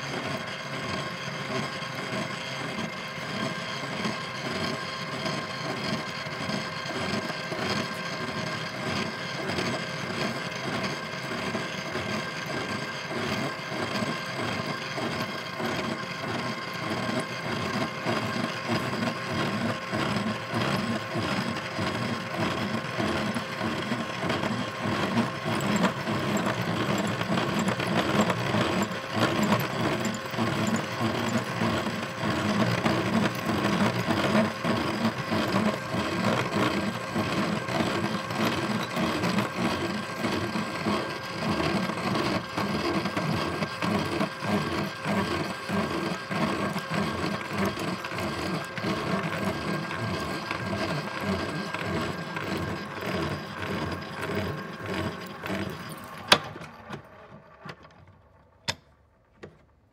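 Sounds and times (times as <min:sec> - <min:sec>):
drill press cutting metal: 0:00.0 - 0:59.5.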